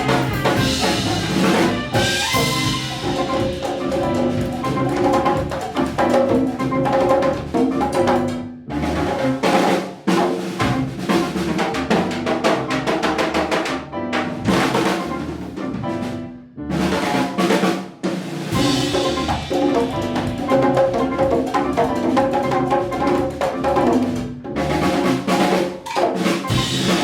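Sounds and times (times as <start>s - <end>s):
latin jazz band playing: 0.0s - 27.0s
snare drum rolls and fills: 0.0s - 27.0s.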